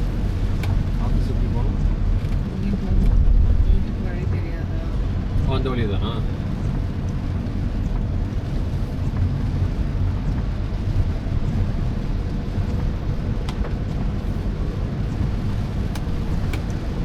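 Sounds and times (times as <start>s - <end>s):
car driving on wet road: 0.0s - 17.0s.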